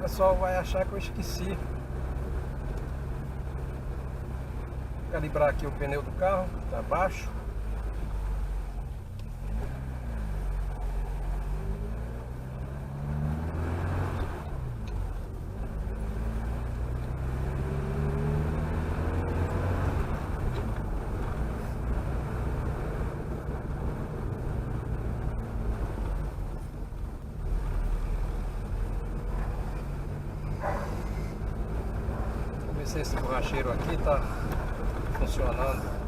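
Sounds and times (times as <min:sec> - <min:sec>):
car engine accelerating through gears: 0:00.0 - 0:36.0
road noise: 0:00.0 - 0:36.0.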